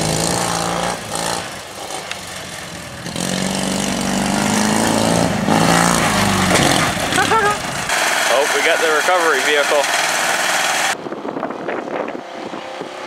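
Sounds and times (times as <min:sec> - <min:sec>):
racing lawn mower engines: 0:00.0 - 0:13.0.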